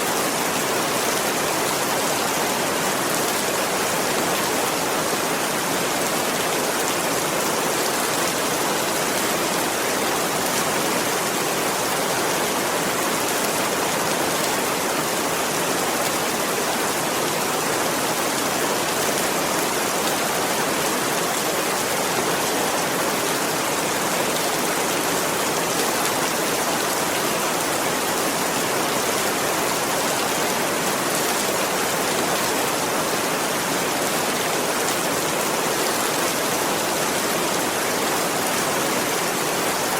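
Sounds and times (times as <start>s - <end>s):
steady dense rain: 0.0s - 39.9s.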